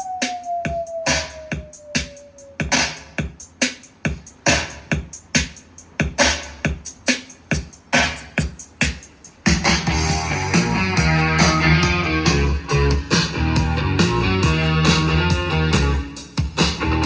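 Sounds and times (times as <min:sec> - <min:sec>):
electronic music with drum hits: 0:00.0 - 0:17.0.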